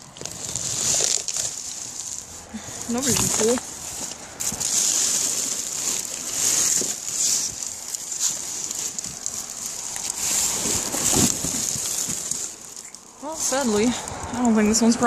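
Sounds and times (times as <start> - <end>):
plastic garbage bags rustling: 0.0 - 14.7.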